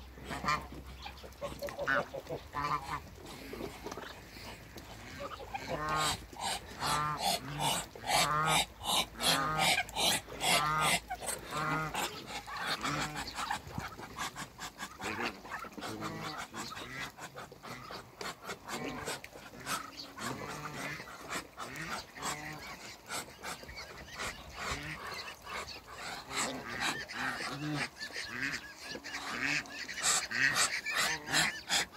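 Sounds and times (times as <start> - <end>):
ducks calling: 0.0 - 31.9.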